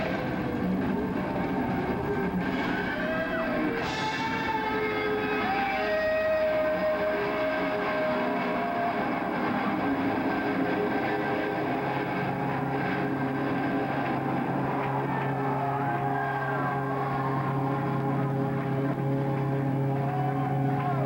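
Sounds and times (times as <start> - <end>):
electric guitar feedback: 0.0 - 21.0
low amplifier hum: 0.0 - 21.0.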